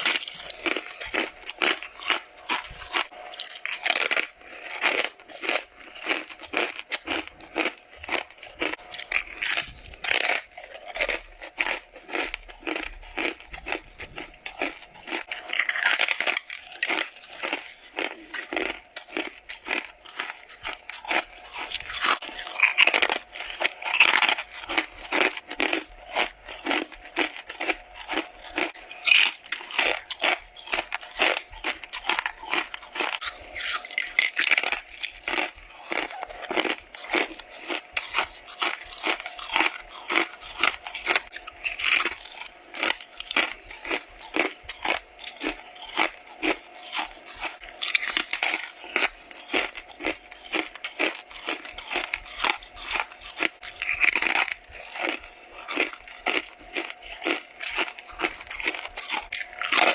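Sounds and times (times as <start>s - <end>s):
crunchy biting of frost: 0.0s - 59.9s.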